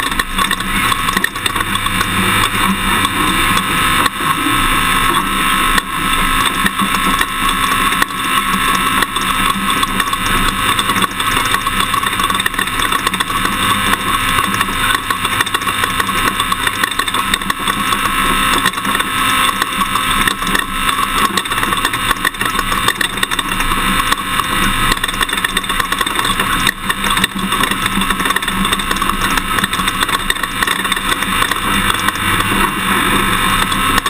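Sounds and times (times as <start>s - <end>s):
pickup truck engine: 0.0s - 34.0s
rattles and knocks: 5.8s - 34.0s.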